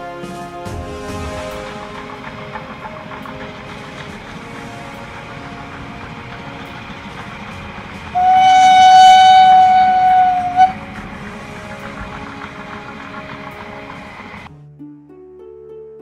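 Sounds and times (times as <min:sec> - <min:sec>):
steam locomotive whistle: 0:00.0 - 0:14.5.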